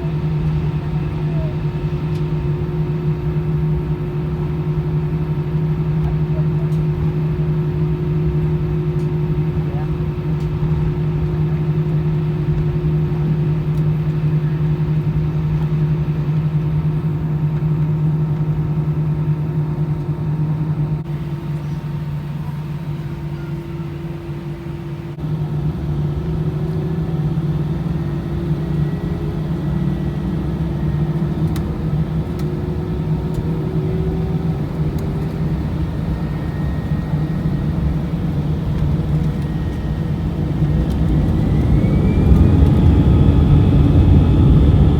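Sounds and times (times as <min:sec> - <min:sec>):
airliner cabin drone: 0:00.0 - 0:44.9.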